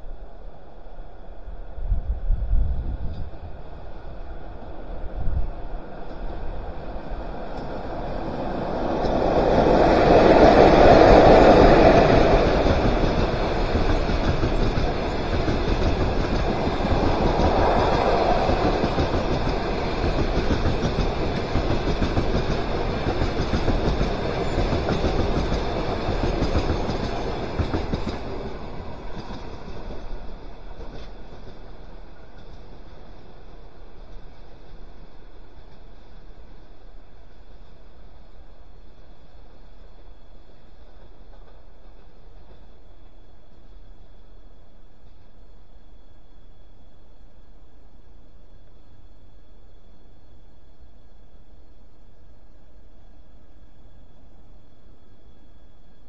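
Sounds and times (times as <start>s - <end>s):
electric locomotive passing: 0.0s - 56.0s
train wheels rumbling on rails: 1.0s - 52.0s.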